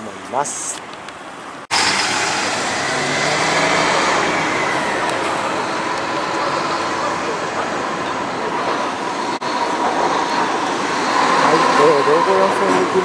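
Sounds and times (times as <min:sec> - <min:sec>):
road traffic: 0:00.0 - 0:13.0
streetcar approaching: 0:01.7 - 0:13.0.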